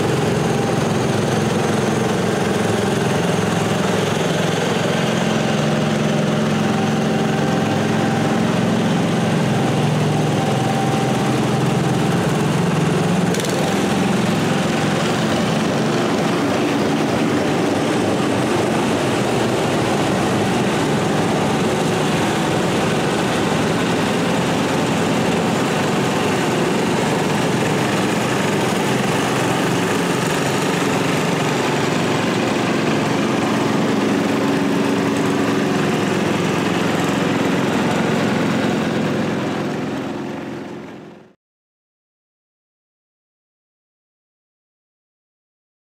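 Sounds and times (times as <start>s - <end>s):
garden tractor engines driving past: 0.0s - 41.3s.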